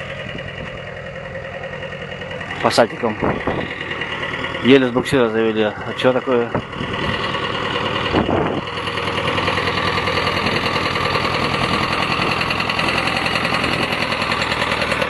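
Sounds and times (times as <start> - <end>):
diesel tractor engine pulsing: 0.0 - 15.0.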